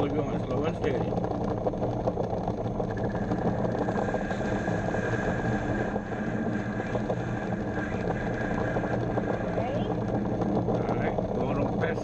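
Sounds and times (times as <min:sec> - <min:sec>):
bench lathe motor running: 0:00.0 - 0:12.0.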